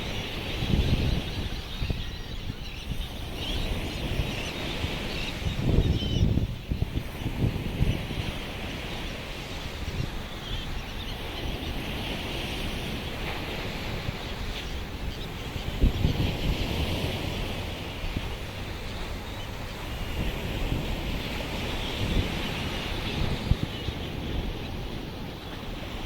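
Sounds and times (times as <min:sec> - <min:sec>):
distant seabird flock chatter: 0:00.0 - 0:26.0
surf washing: 0:00.0 - 0:26.0
wind buffeting microphone: 0:00.0 - 0:26.0.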